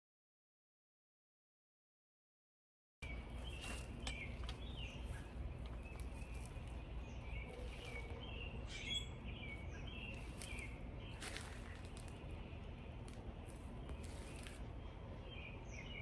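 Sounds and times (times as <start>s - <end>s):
low background rumble: 3.0s - 16.0s
small birds chirping: 3.0s - 16.0s.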